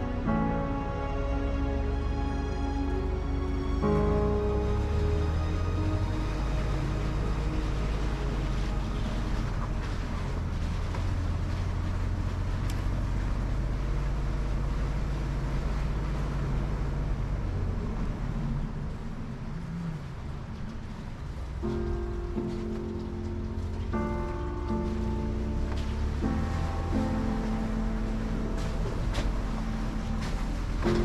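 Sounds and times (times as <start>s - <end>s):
car engine and road drone: 0.0s - 31.0s.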